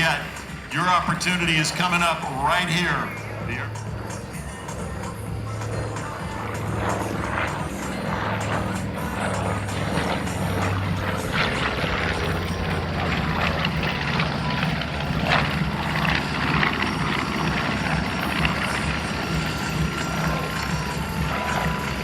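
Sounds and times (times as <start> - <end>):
propeller aircraft engines droning: 0.0 - 22.0.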